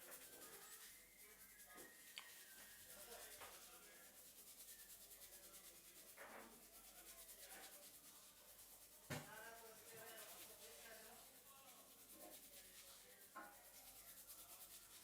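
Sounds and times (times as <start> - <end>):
hands rubbing hair and scalp: 0.0 - 15.0.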